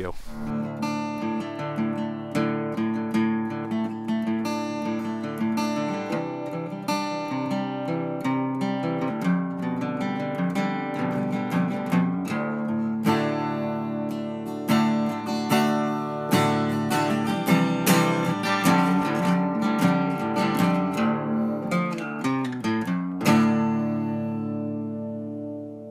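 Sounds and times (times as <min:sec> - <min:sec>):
acoustic guitar music: 0:00.0 - 0:25.9.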